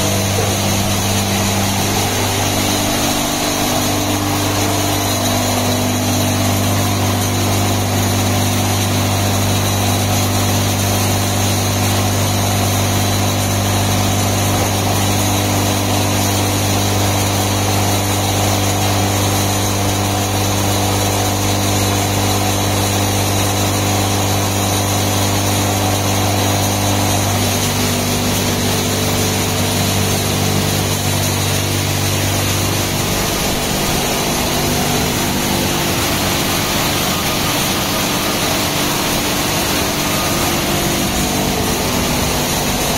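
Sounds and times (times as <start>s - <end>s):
high-pressure pump humming: 0.0s - 42.9s
water mist hissing on car: 0.0s - 42.9s.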